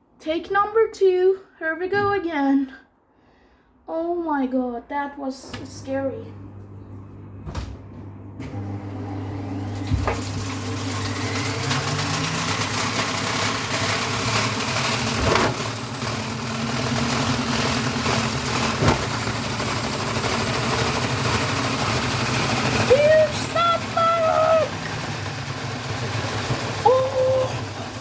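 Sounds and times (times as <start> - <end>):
washing machine motor hum: 5.4 - 28.0.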